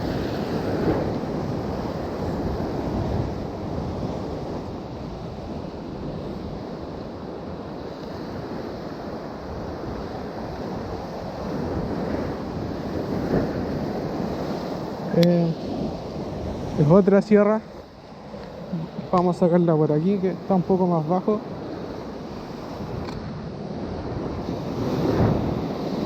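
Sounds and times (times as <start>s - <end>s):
sea surf washing ashore: 0.0s - 26.0s
wind buffeting microphone: 0.0s - 26.0s.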